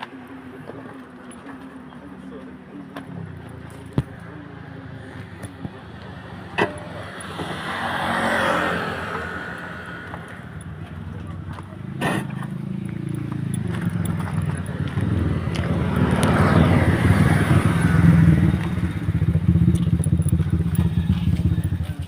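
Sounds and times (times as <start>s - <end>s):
motor engine rumbling: 0.0s - 22.0s.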